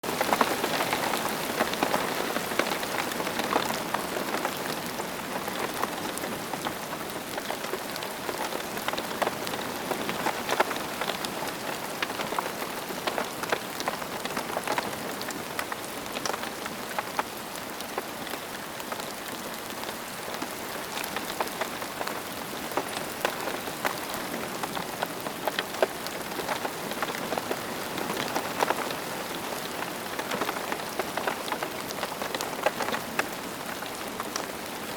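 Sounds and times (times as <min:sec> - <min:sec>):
steady rain hissing: 0:00.0 - 0:34.9
raindrops ticking: 0:00.1 - 0:34.9.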